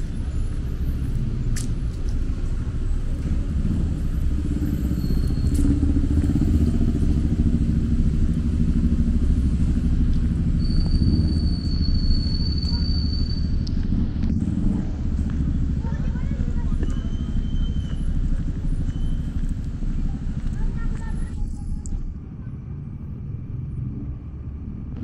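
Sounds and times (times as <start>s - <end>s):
vehicle passing: 0.0s - 21.6s
street traffic rumble: 0.0s - 25.0s.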